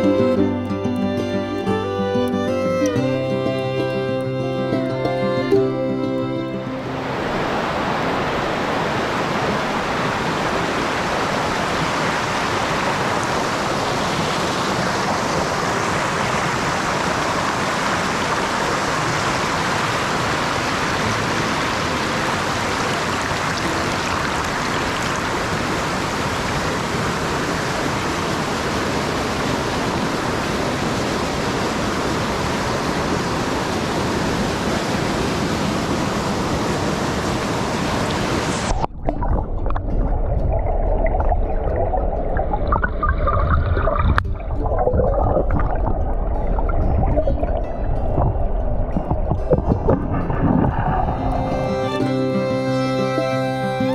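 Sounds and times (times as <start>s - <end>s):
whitewater rushing over rocks: 0.0s - 53.9s.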